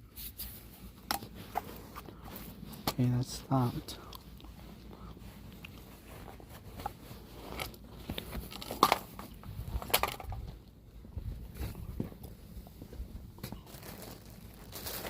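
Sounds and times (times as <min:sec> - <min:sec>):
crinkling and rustling: 0:00.0 - 0:15.0.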